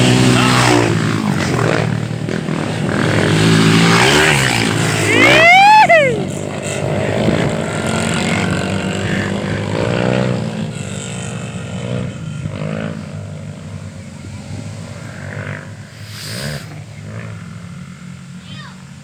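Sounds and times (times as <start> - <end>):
motorcycles passing and revving: 0.0 - 19.0.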